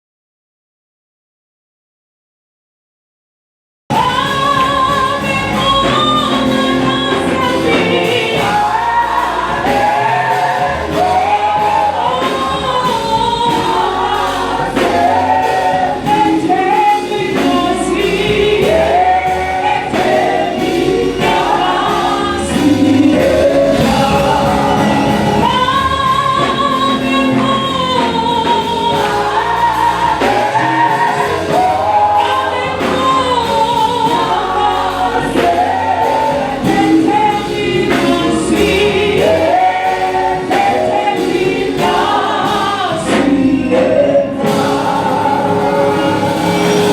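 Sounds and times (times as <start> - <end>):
band accompaniment: 3.9 - 46.9
choir singing gospel: 3.9 - 46.9.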